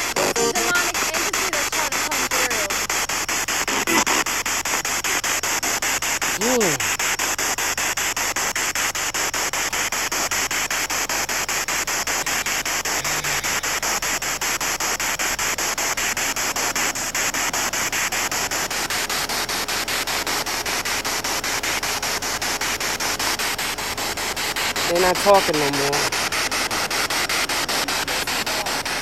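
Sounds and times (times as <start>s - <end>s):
pulsing radio static: 0.0s - 29.0s.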